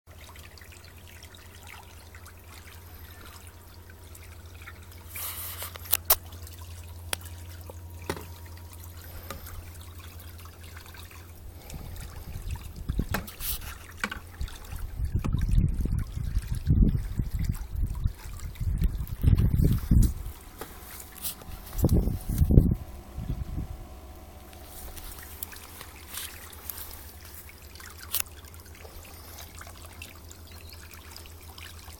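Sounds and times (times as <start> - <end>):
low churning rumble: 0.1 - 31.9
low hum: 0.1 - 31.9
pool water trickling and lapping: 0.1 - 31.9
water splashes: 0.1 - 31.9.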